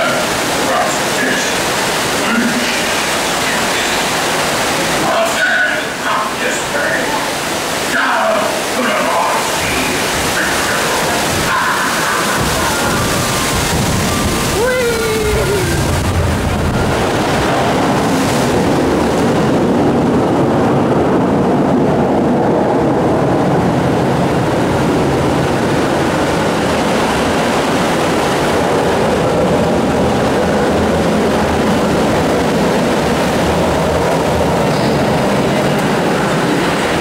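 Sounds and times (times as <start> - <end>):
water rushing around a boat: 0.0 - 37.0.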